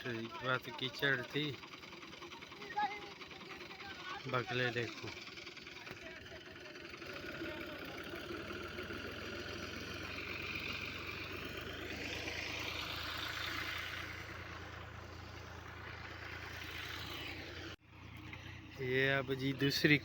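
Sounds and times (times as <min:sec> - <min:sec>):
engine low hum: 0:00.0 - 0:20.0.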